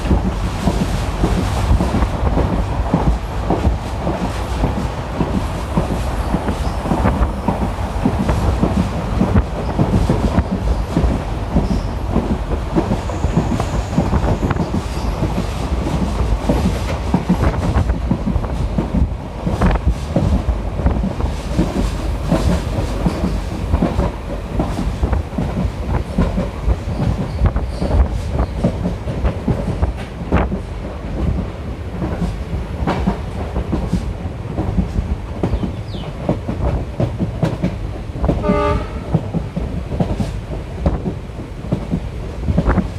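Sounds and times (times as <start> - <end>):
train rumble on board: 0.0 - 42.9
wheels clacking over rail joints: 0.0 - 42.9.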